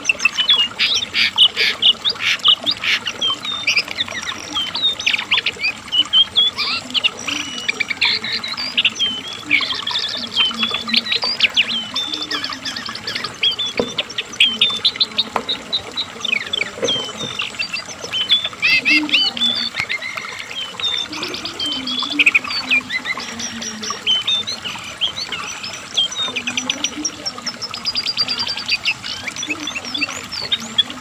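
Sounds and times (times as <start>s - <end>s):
bird singing high chirps and trills: 0.0s - 31.0s.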